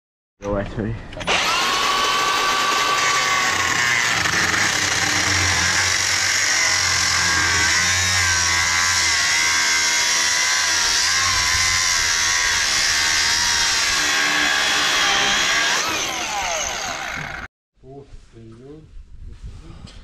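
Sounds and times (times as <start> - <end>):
angle grinder cutting steel: 1.2 - 17.5.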